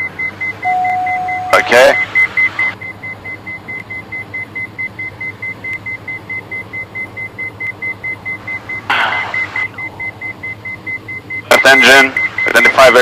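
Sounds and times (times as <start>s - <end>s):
rapid high warning beeps: 0.0s - 13.0s.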